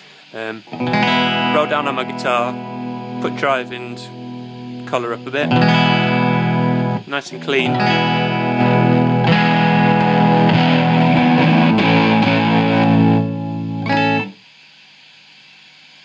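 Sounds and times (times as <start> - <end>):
electric guitar chords: 0.0 - 14.4
faint hiss and hum: 0.0 - 16.0.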